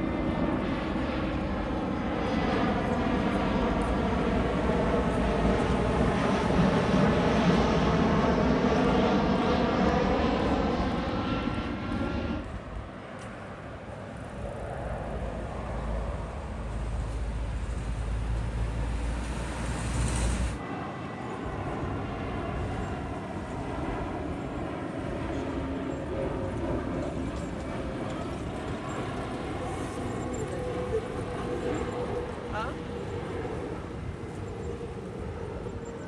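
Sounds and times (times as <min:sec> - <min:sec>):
aircraft engines passing: 0:00.0 - 0:36.0
faint engine whine: 0:00.0 - 0:36.0.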